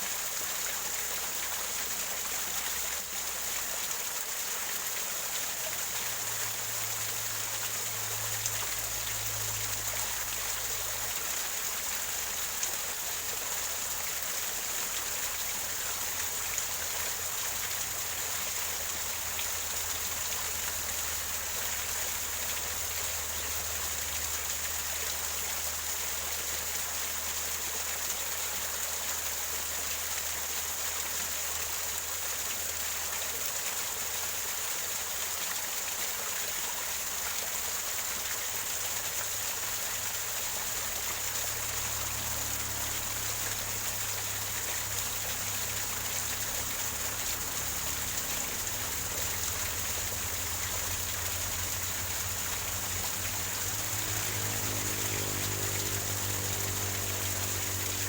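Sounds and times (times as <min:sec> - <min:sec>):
waterfall splashing over rocks: 0:00.0 - 0:58.0.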